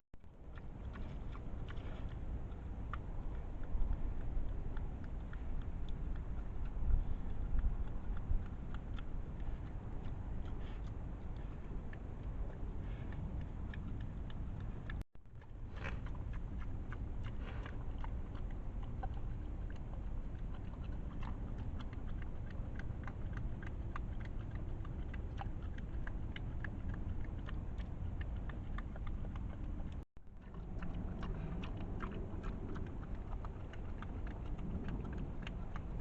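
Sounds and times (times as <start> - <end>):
steady low rumble: 0.0 - 36.0
boar chewing and crunching feed: 0.2 - 36.0.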